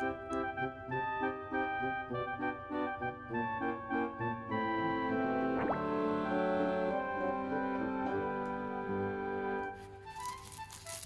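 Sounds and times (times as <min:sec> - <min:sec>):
held keyboard chords: 0:00.0 - 0:11.0.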